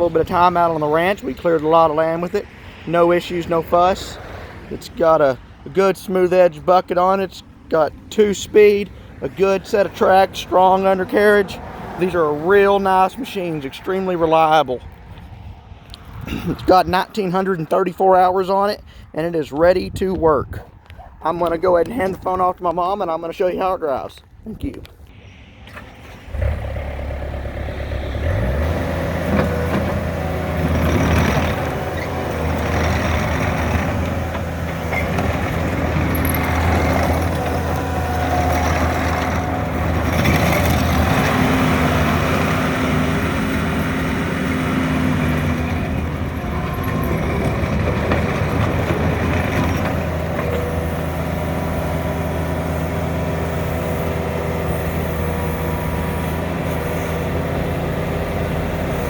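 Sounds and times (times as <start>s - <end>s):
diesel engine under load: 0.0s - 24.0s, 24.7s - 59.0s.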